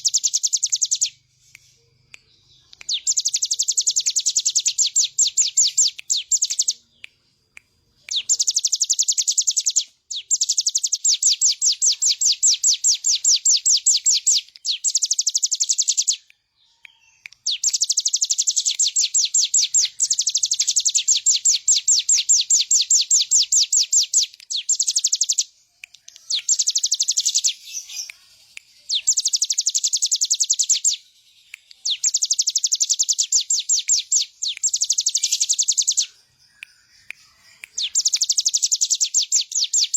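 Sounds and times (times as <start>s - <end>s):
bird singing rapid high trills: 0.0s - 7.1s, 8.1s - 39.9s.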